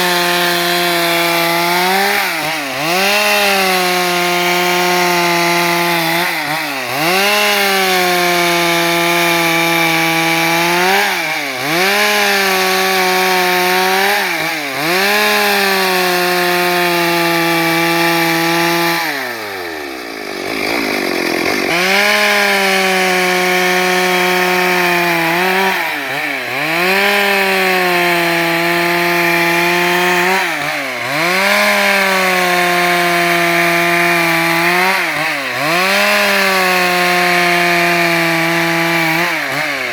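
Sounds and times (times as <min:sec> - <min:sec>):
chainsaw sawing planks: 0:00.0 - 0:39.9.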